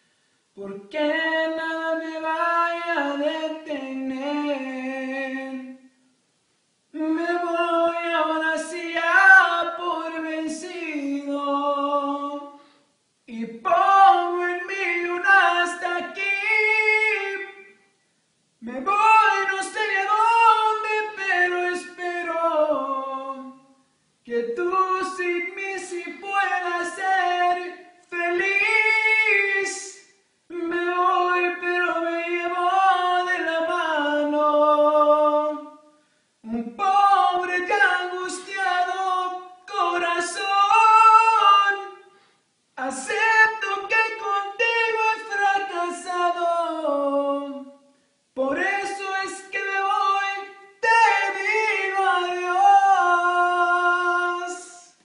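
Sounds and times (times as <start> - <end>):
man singing unaccompanied: 0.0 - 6.2, 6.9 - 18.0, 18.6 - 55.0.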